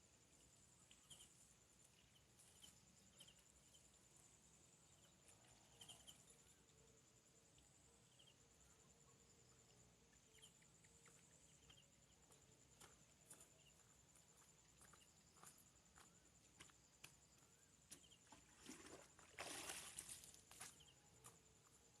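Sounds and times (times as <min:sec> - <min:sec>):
insect trill: 0:00.0 - 0:22.0.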